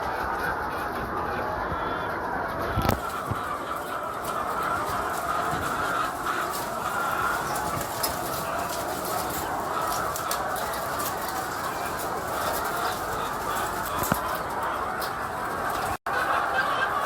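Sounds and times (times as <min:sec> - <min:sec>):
chickens clucking and chirping: 0:00.0 - 0:17.0.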